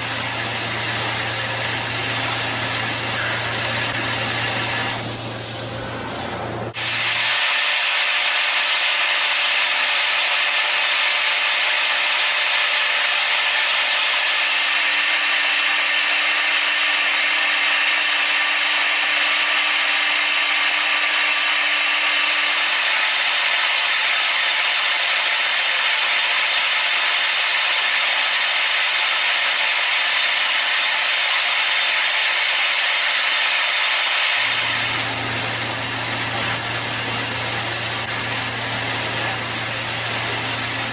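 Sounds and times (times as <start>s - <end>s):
cnc machine machining: 0.0s - 40.9s.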